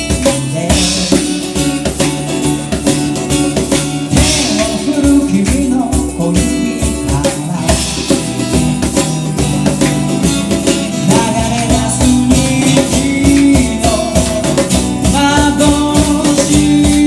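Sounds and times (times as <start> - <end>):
man singing: 0.0 - 2.2, 4.1 - 9.5, 10.8 - 17.0
acoustic guitar strumming: 0.0 - 17.0
hand percussion: 0.0 - 17.0.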